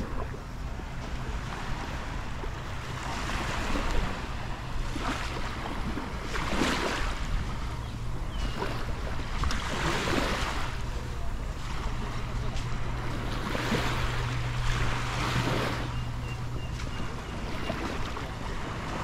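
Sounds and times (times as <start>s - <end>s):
waves washing onto beach: 0.0s - 19.0s
wind rumble on microphone: 0.0s - 19.0s.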